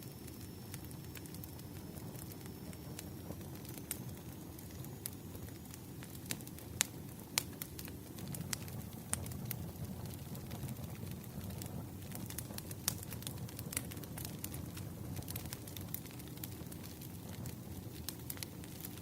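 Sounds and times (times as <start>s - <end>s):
low rumble of burning logs: 0.0s - 19.0s
wood fire pops and snaps: 0.2s - 19.0s.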